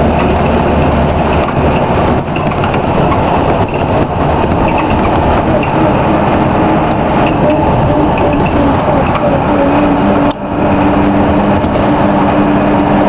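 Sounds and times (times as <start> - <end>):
bus diesel engine drone: 0.0 - 13.0
road and body noise: 0.0 - 13.0.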